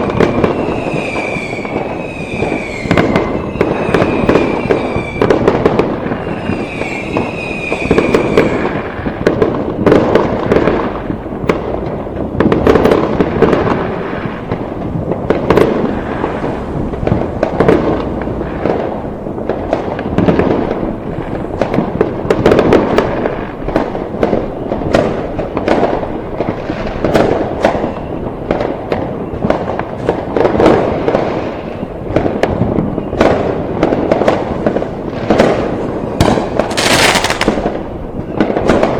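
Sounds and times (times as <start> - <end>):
firework whistling: 0.0 - 38.9
fireworks bangs and crackling: 0.0 - 38.9.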